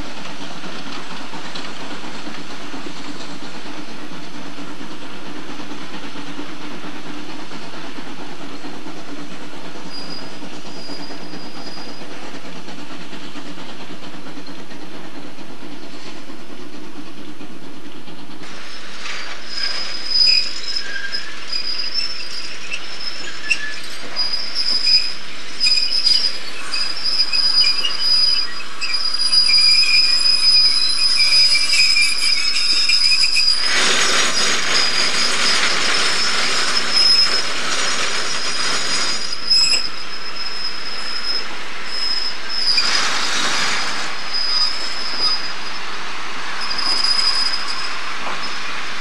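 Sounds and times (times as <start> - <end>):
train wheels squealing: 0.0 - 49.0
wheel rumble and rattle: 0.0 - 49.0.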